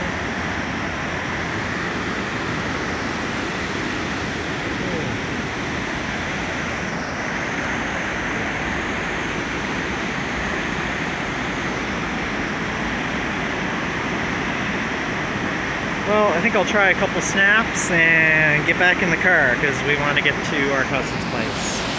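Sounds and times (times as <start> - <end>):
waterfall roaring: 0.0 - 21.9.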